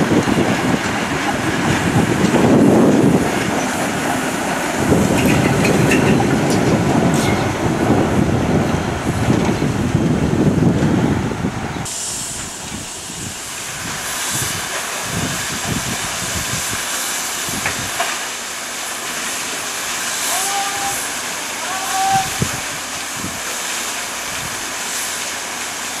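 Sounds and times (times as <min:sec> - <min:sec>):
steam locomotive hissing: 0:00.0 - 0:26.0
train rumble and rail clatter: 0:00.0 - 0:26.0.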